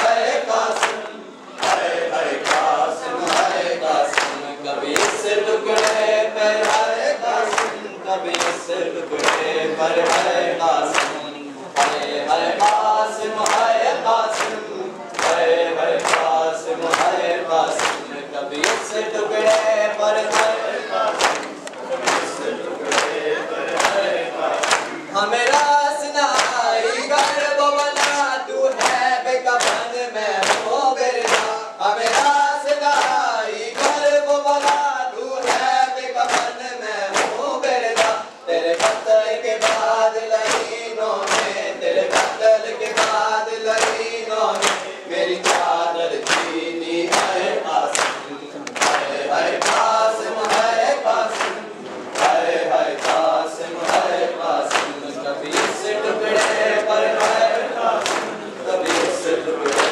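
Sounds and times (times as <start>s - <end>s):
men singing lament together: 0.0s - 59.9s.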